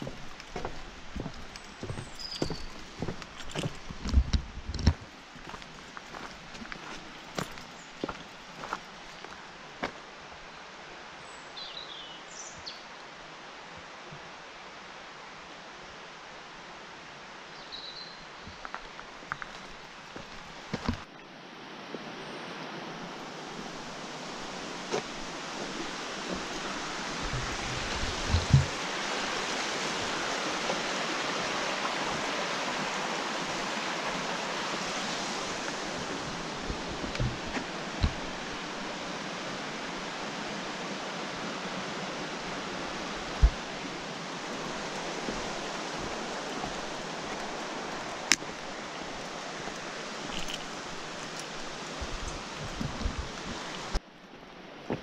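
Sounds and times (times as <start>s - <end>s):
river rushing over stones: 0.0s - 11.2s, 18.5s - 55.0s.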